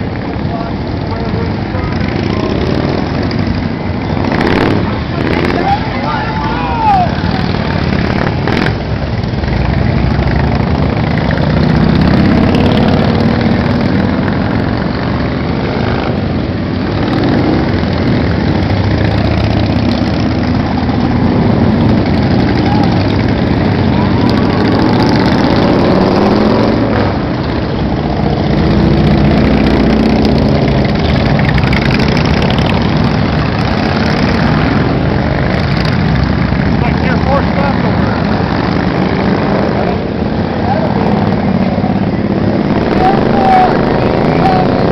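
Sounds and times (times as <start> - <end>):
motorcycles passing and revving: 0.0 - 44.9.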